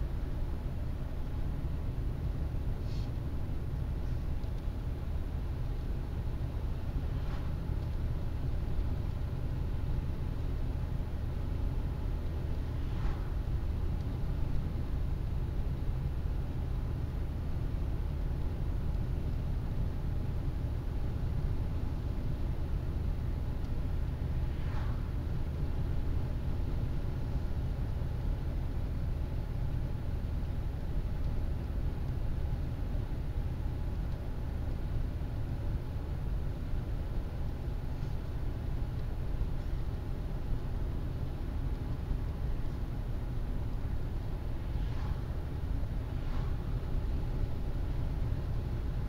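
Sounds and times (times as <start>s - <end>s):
car engine and tyres rumbling: 0.0s - 49.0s.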